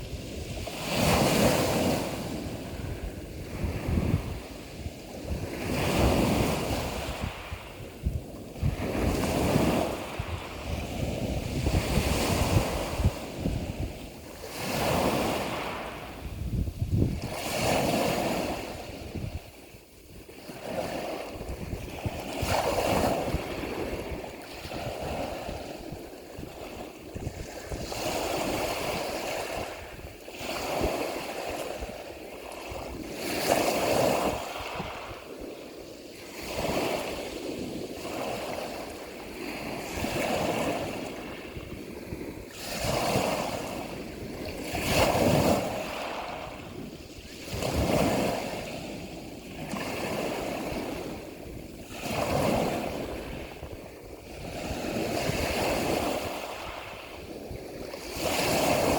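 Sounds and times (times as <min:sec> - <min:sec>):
ocean waves washing in: 0:00.0 - 0:58.9
wind rumbling on microphone: 0:00.0 - 0:58.9.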